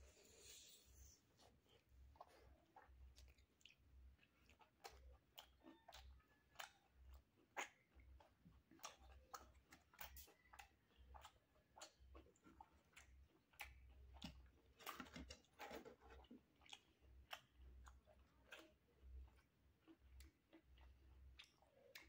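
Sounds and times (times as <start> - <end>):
faint chewing mouth smacks: 0.3 - 22.0.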